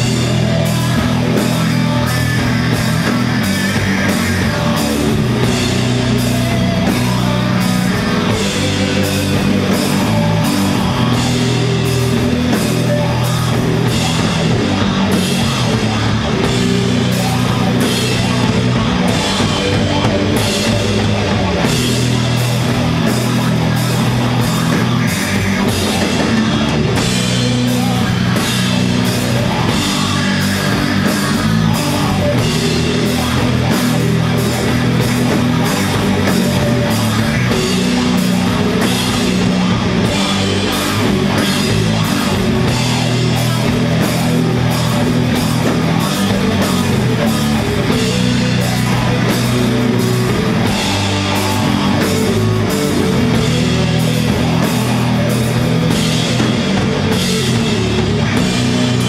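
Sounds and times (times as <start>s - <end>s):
distorted guitars and bass: 0.0s - 59.0s
drum kit with cymbals: 0.0s - 59.0s.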